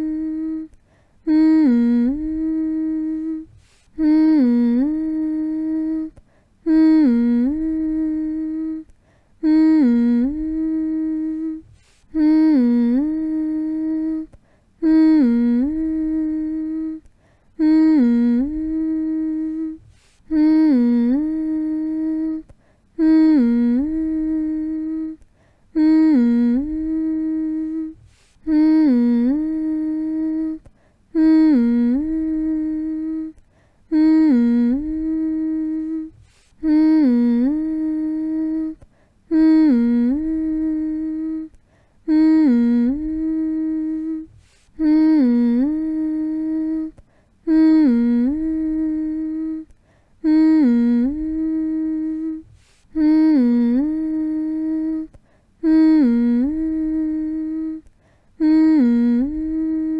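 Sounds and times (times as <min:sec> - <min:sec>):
person humming low note: 0:00.0 - 0:59.9.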